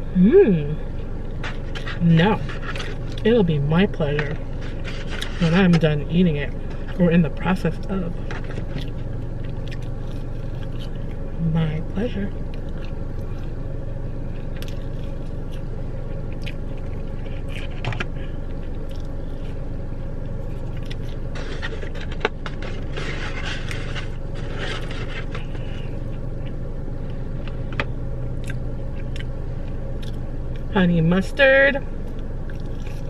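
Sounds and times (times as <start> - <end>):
low hum inside a car: 0.0 - 33.0.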